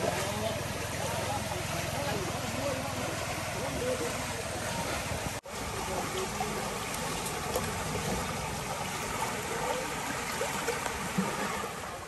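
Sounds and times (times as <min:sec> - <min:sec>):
stream water rushing through net: 0:00.0 - 0:12.0.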